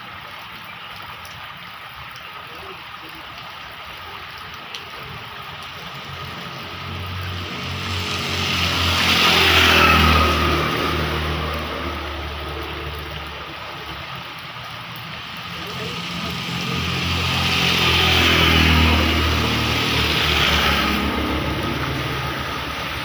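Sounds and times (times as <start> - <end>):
heavy rain: 0.0 - 23.0
vehicle passing on wet road: 0.0 - 23.0.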